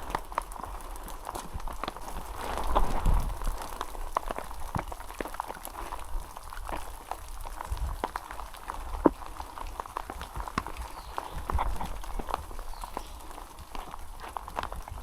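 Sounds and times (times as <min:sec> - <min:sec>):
sharp raindrops striking close: 0:00.0 - 0:15.0.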